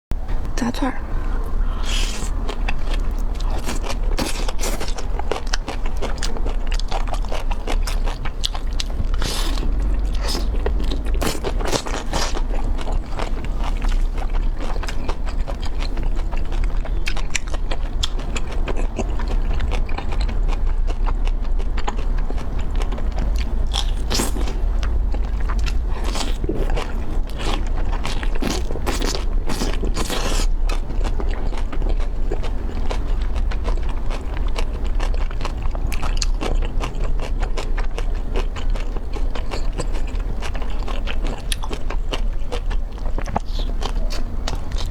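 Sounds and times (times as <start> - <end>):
low hum: 0.2 - 44.9
chewing crunchy food: 1.5 - 44.9.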